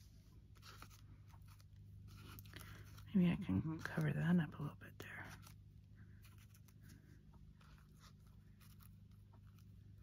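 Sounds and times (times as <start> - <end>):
paper rustling: 0.0 - 4.1, 5.2 - 10.0
faint room hum: 0.0 - 10.0.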